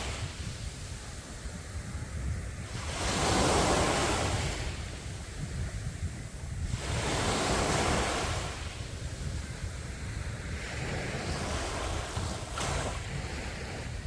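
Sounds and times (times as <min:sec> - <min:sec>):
sea waves breaking: 0:00.0 - 0:14.0
wind on microphone: 0:00.0 - 0:14.0.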